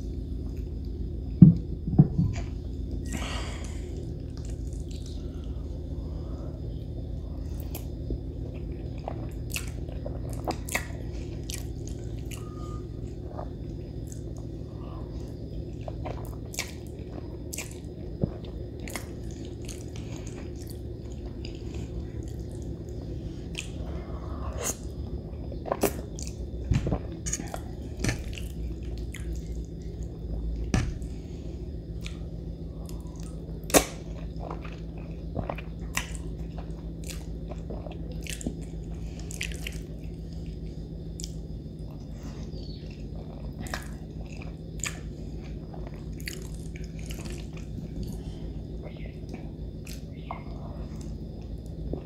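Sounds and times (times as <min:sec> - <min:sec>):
low hum: 0:00.0 - 0:52.0
person chewing food: 0:00.3 - 0:52.0.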